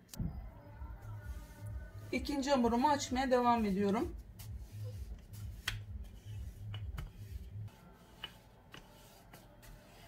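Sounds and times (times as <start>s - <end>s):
rolling pin rolling dough: 1.2s - 10.0s.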